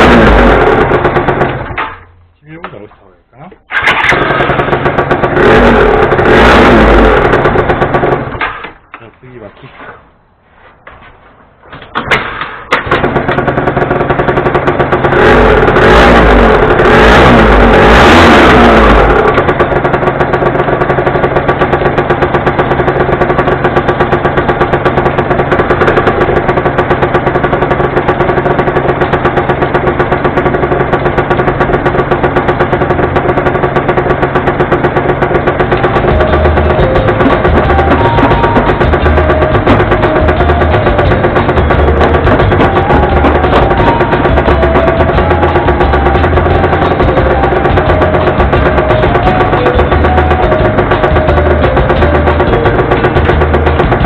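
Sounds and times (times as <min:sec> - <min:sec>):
two-stroke scooter engine revving and idling: 0:00.0 - 0:02.2, 0:03.7 - 0:08.8, 0:12.2 - 0:54.0
scooter engine cranking: 0:00.0 - 0:02.3, 0:03.7 - 0:09.0, 0:11.6 - 0:54.0.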